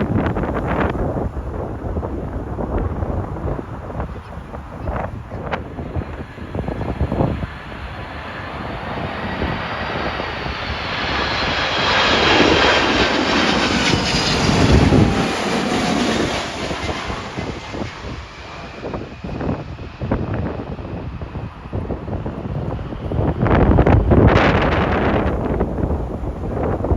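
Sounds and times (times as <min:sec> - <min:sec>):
jet airliner passing overhead: 0:00.0 - 0:26.9
wind buffeting microphone: 0:00.0 - 0:26.9.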